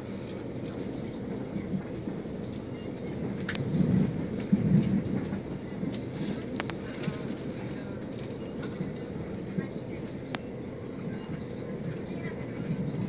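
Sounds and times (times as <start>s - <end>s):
rumble of wheels on track: 0.0s - 13.0s.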